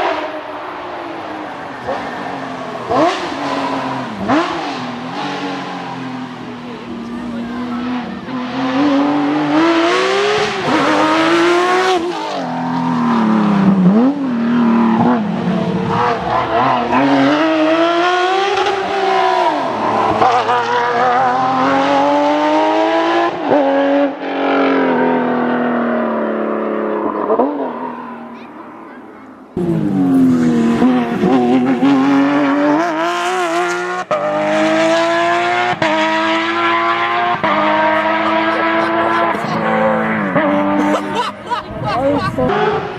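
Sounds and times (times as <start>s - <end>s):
sports car engine revving: 0.0s - 28.7s, 29.4s - 42.9s.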